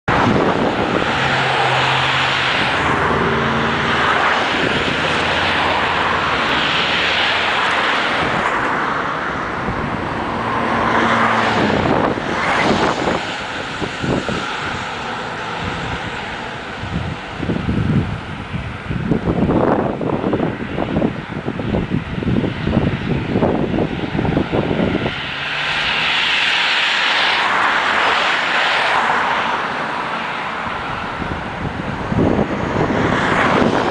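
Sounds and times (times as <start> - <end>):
cars driving by: 0.0 - 33.9.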